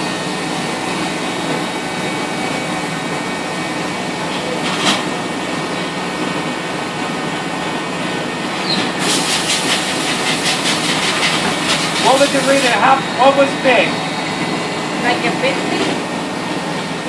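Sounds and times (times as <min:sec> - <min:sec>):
machine hiss and hum: 0:00.0 - 0:17.0.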